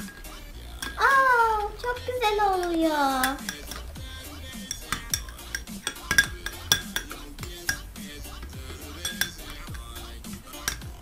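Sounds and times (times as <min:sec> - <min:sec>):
metal spoon clinking glass bowl: 0:00.0 - 0:01.2, 0:02.6 - 0:11.0.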